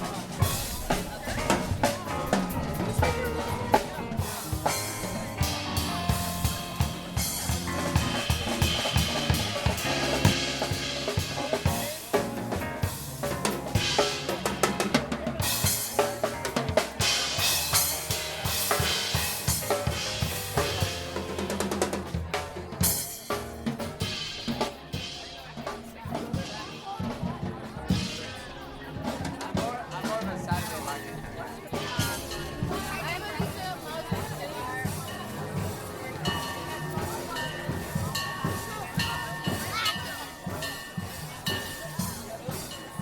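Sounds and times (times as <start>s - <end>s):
drum kit beat: 0.0s - 43.0s.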